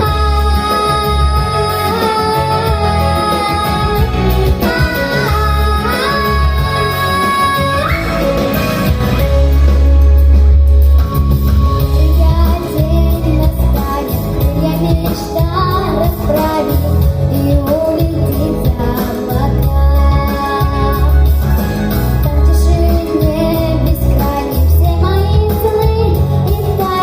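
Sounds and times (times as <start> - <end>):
girl singing: 0.0 - 8.4, 11.8 - 21.2, 22.2 - 27.0
instrumental music with heavy bass: 0.0 - 27.0.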